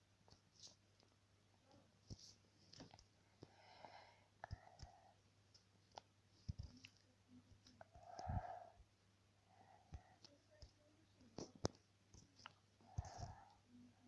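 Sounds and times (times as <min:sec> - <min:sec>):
faint clicks and taps: 0:00.2 - 0:03.6, 0:04.4 - 0:08.5, 0:09.8 - 0:13.6
soft breathy sound: 0:01.6 - 0:14.0.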